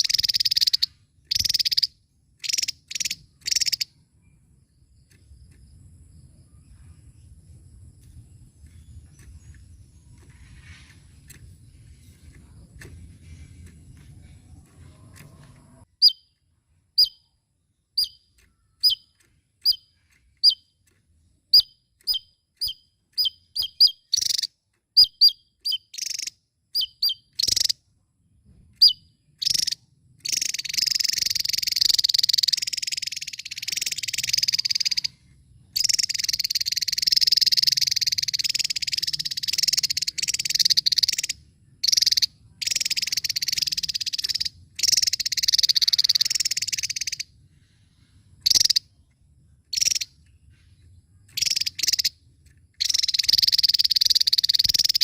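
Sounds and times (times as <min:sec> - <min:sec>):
rapid twittering birdsong: 0:00.0 - 0:55.0.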